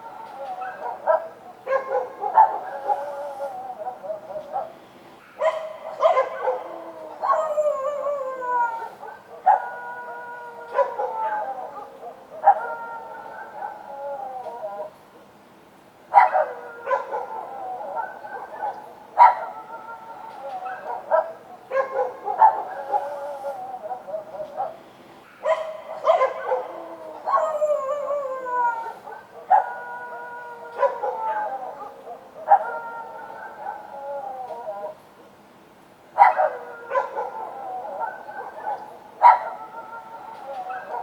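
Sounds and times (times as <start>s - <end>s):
dogs barking and howling: 0.0s - 15.0s, 16.1s - 35.1s, 36.1s - 41.0s.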